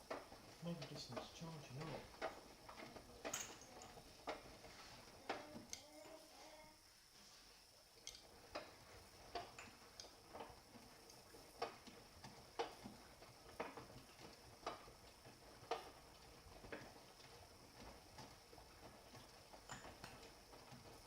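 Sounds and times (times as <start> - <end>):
faint clicks and knocks: 0.0 - 6.8, 8.0 - 21.0.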